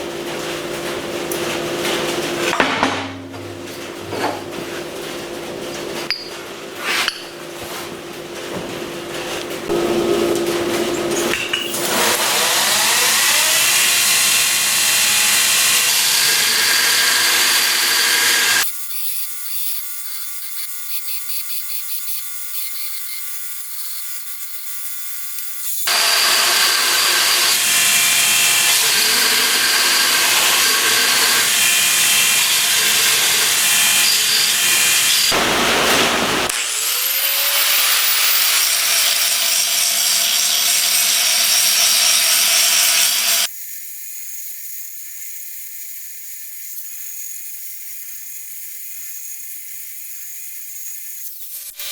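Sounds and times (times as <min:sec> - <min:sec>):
power tool on metal: 0:09.7 - 0:51.9.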